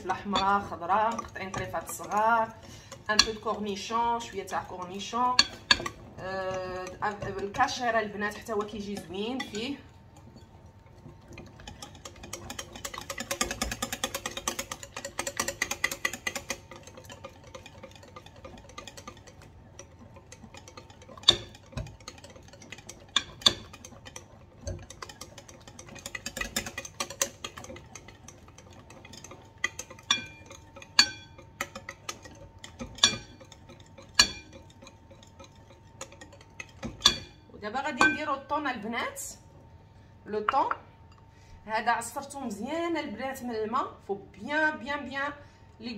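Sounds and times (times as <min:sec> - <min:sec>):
whisk beating batter in glass bowl: 0:00.0 - 0:39.7.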